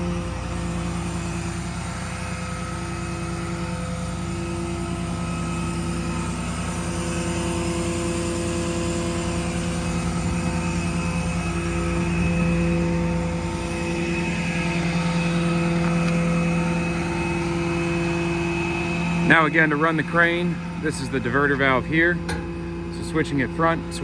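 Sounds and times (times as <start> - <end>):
diesel truck engine humming: 0.0 - 24.0.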